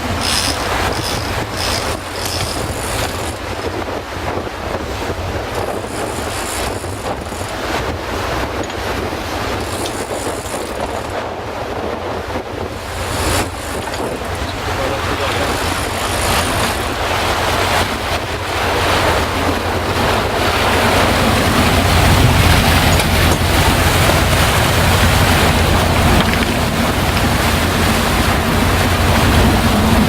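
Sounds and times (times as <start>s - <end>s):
boat engine humming: 0.0s - 30.0s
wind and water rushing: 0.0s - 30.0s
wind buffeting microphone: 0.0s - 30.0s.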